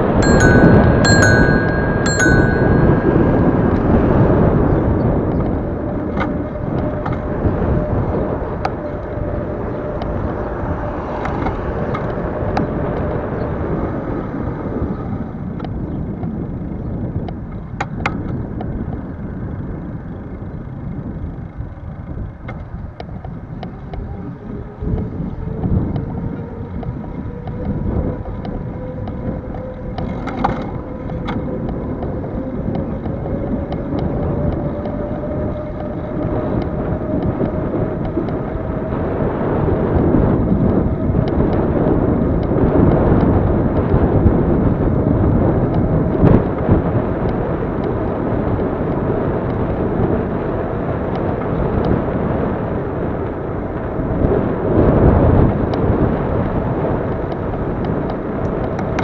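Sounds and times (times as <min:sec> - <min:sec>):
bicycle tyre rumble on asphalt: 0:00.0 - 0:59.0
wind buffeting microphone: 0:00.0 - 0:59.0.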